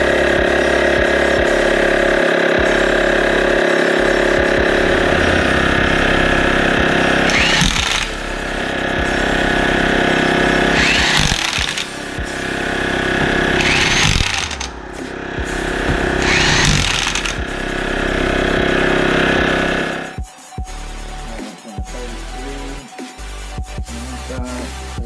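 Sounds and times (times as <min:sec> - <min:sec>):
air compressor running: 0:00.0 - 0:20.2.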